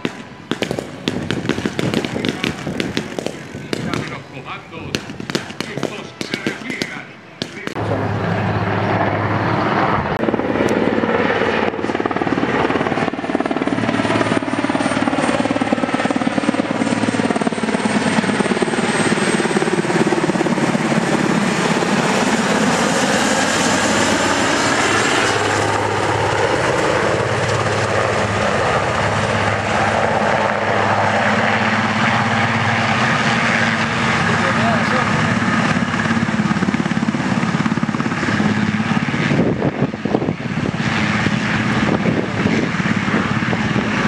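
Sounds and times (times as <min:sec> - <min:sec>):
helicopter rotor beat: 0:00.0 - 0:44.0
turbine engine whine: 0:00.0 - 0:44.0.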